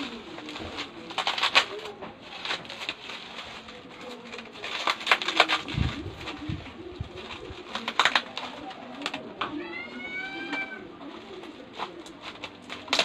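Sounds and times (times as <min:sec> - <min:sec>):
bird cooing: 0:00.0 - 0:13.0
plastic wrapping crinkling: 0:00.0 - 0:13.0.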